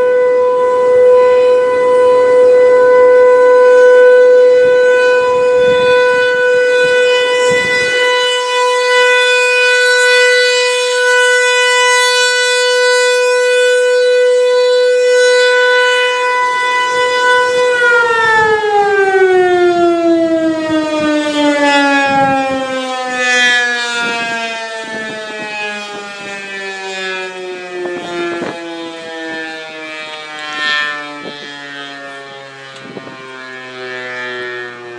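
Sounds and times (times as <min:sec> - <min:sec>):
tornado warning siren winding down: 0:00.0 - 0:34.9.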